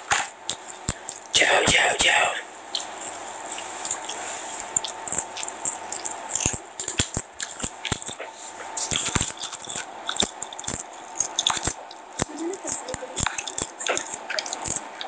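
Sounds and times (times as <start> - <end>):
chewing with wet smacks: 2.7 - 15.0.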